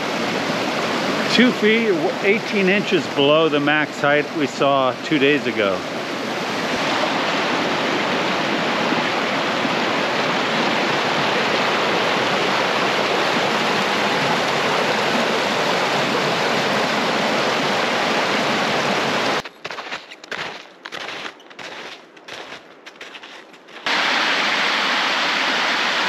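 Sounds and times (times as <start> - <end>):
brook water rushing: 0.0 - 26.0.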